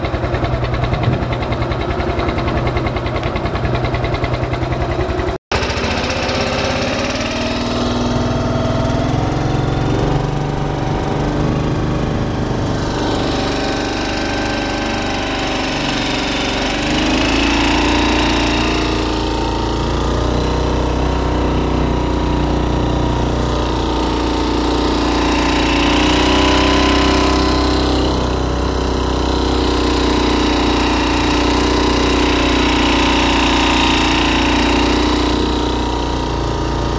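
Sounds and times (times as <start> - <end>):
boat motor running: 0.0 - 36.9.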